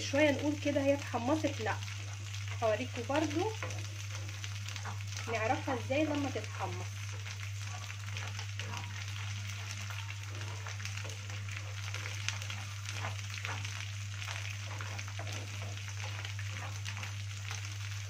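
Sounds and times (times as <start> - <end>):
greens sizzling in a pan: 0.0 - 18.0
wooden spatula stirring: 0.2 - 18.0.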